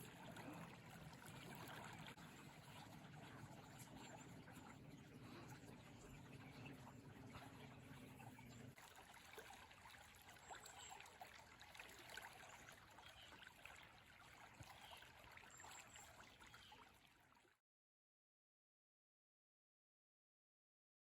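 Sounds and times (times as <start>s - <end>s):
stream flowing: 0.0s - 17.5s.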